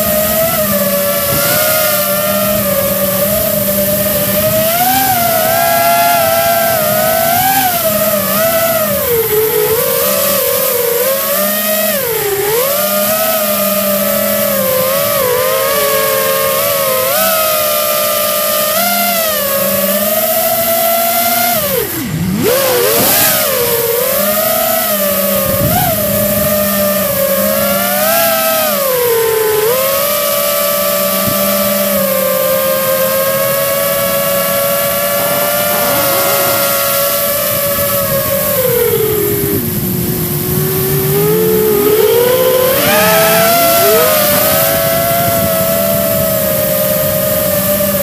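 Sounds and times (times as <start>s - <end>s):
drone motors whining: 0.0s - 48.0s.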